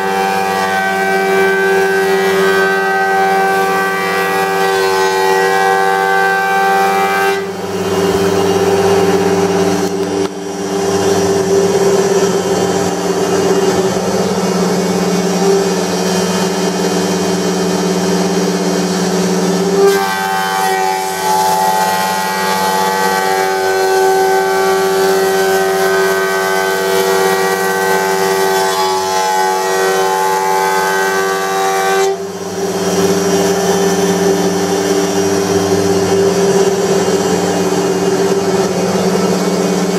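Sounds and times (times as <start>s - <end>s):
planer humming: 0.0s - 39.9s.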